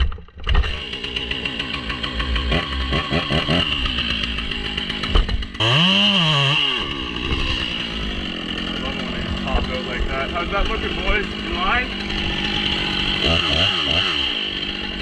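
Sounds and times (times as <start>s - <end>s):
chainsaw engine running: 0.4s - 15.0s.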